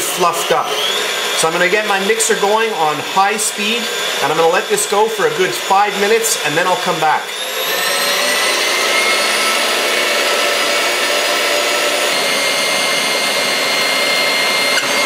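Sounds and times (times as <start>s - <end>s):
stand mixer whisking: 0.0s - 15.0s.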